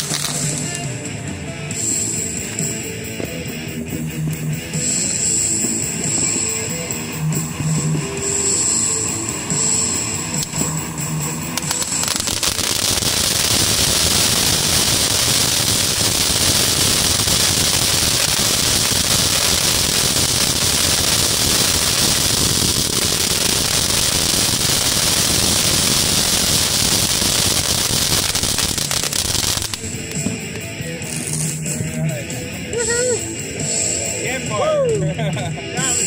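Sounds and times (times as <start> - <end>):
firework fountain hissing and crackling: 0.0 - 31.7.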